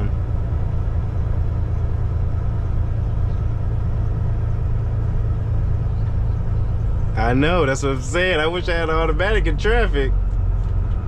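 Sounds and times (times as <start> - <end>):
truck diesel engine droning: 0.0 - 11.0.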